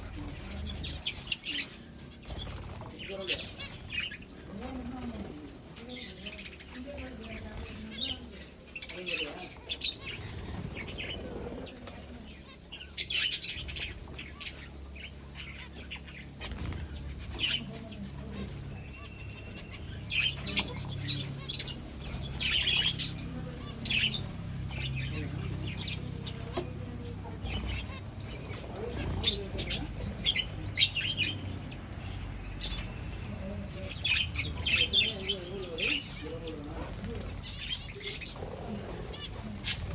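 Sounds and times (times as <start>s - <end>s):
wings flapping: 0.0s - 8.5s, 9.1s - 31.5s, 34.3s - 39.9s
finches chirping: 0.0s - 39.9s.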